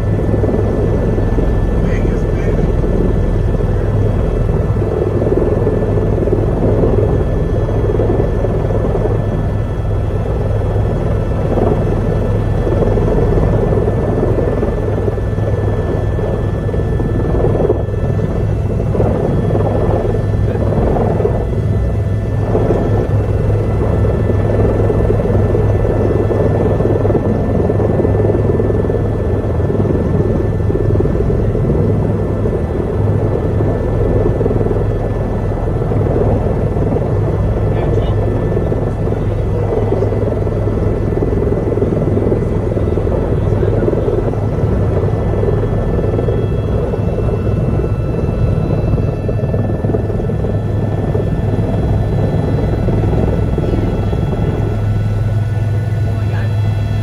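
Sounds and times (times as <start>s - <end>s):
helicopter rotor drone: 0.0s - 57.0s
turbine whine: 0.0s - 57.0s.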